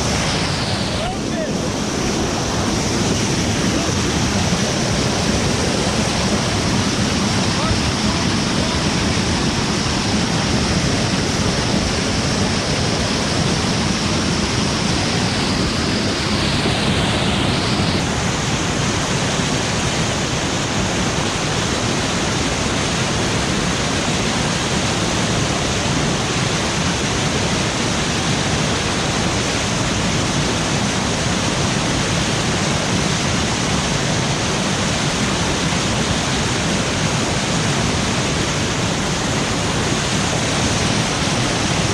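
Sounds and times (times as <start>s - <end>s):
whitewater rushing: 0.0s - 41.9s.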